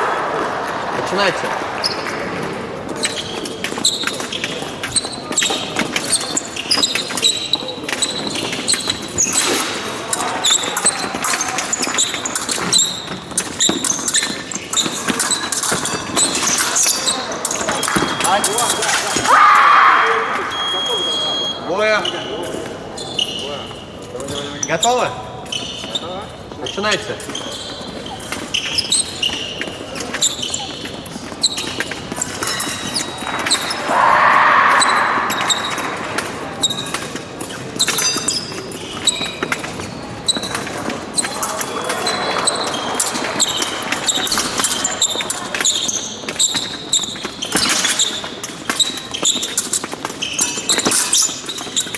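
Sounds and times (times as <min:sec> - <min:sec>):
shoes squeaking: 0:00.5 - 0:19.4, 0:20.2 - 0:51.9.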